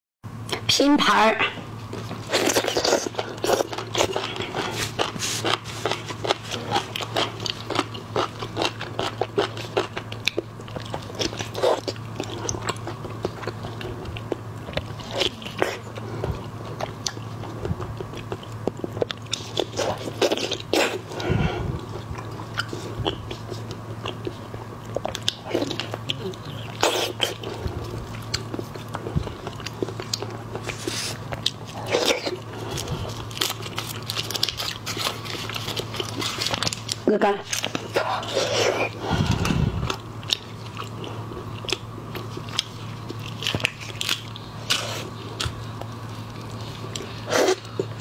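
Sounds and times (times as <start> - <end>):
steady low hum: 0.3 - 48.0
wet chewing of shellfish: 1.8 - 48.0.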